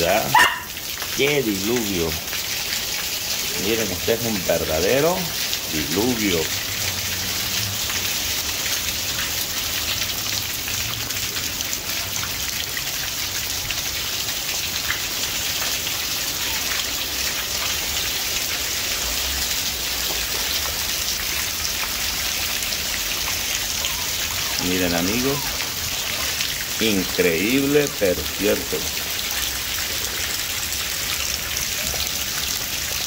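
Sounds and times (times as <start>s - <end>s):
heavy rain splashing into puddles: 0.0s - 33.0s.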